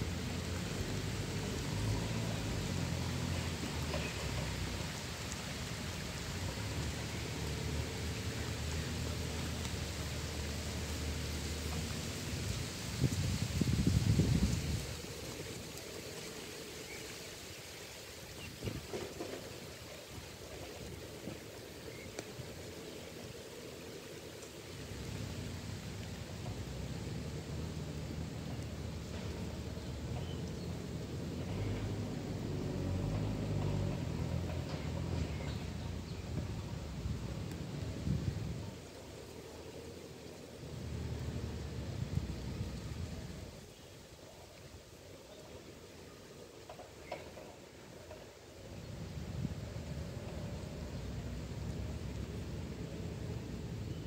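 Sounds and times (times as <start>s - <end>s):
light rain on lake water: 0.0s - 54.0s.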